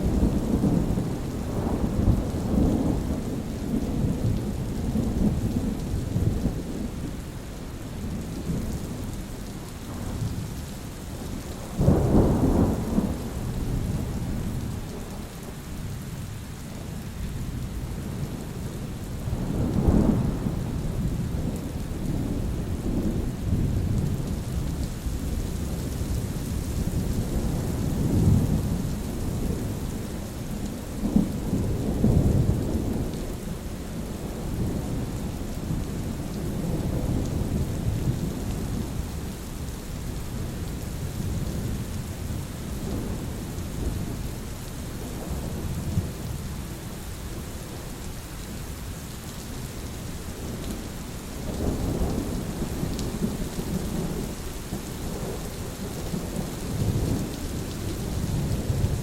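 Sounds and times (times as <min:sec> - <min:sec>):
rain: 0:00.0 - 0:59.0.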